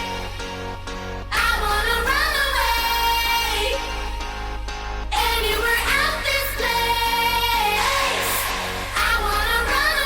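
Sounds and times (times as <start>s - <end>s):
synth bass: 0.0s - 10.0s.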